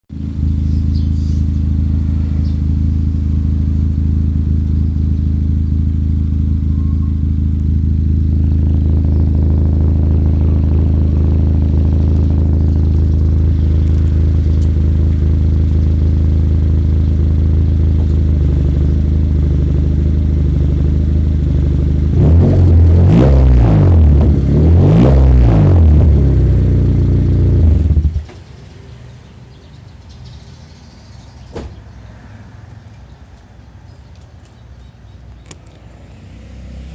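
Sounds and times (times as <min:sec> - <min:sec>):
car engine idling and revving: 0:00.1 - 0:29.4, 0:30.8 - 0:36.9.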